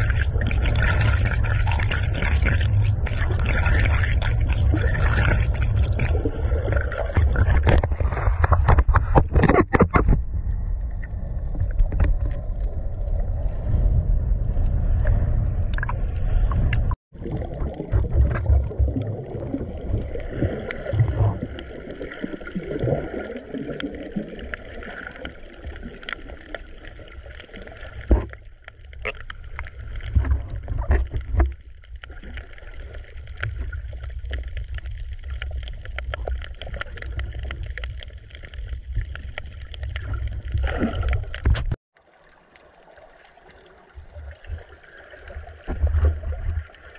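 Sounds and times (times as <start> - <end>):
small clicks underwater: 0.0 - 10.2, 11.0 - 13.2, 14.9 - 17.0, 20.1 - 46.9
underwater rumble of moving water: 0.0 - 46.9
water gurgling: 0.0 - 46.9.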